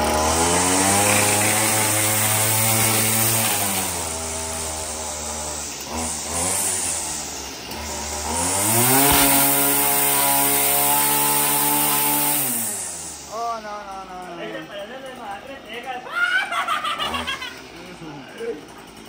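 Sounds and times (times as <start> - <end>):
string trimmer engine running: 0.0 - 16.0, 16.7 - 19.0.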